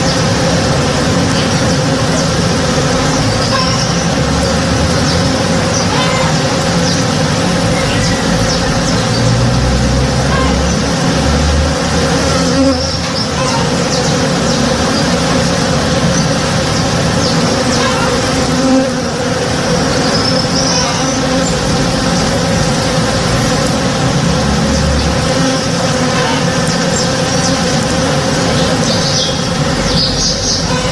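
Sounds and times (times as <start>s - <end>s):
honey bees buzzing: 0.0s - 30.9s.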